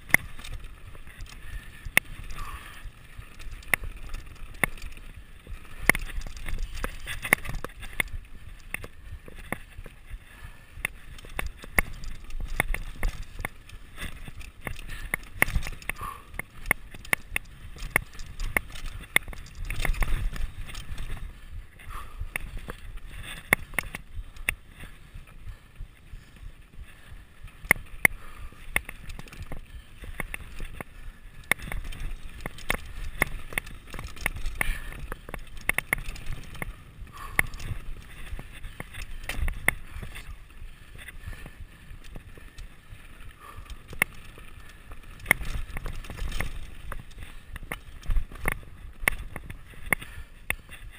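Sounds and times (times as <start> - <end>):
bike chain rattling and clicking: 0.0 - 50.9
bike tyres rolling over stones: 0.0 - 50.9.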